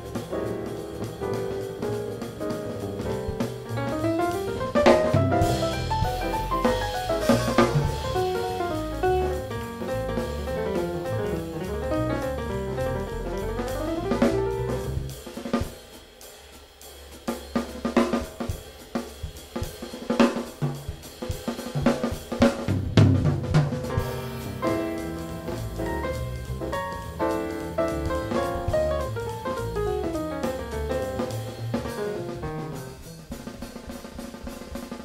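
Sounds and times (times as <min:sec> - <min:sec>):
piano: 0:00.0 - 0:16.0, 0:17.6 - 0:35.0
bass: 0:00.0 - 0:35.0
drum kit: 0:00.0 - 0:35.0.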